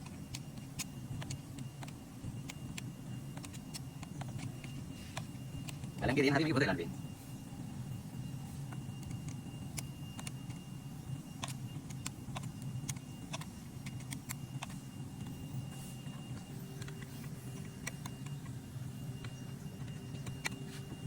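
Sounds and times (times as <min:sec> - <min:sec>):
small sharp clicks and ticks: 0:00.0 - 0:06.1, 0:08.7 - 0:21.0
steady low hum: 0:00.0 - 0:21.0.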